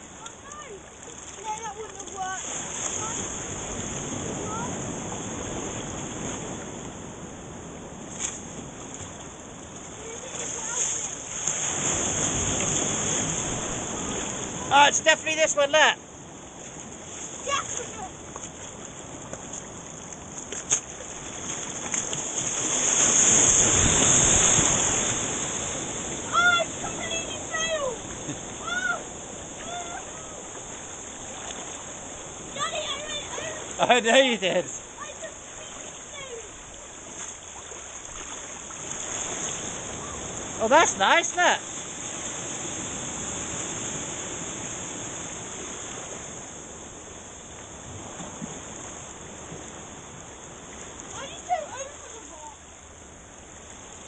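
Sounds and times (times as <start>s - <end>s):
wave rushing through shallow water: 0.0s - 54.0s.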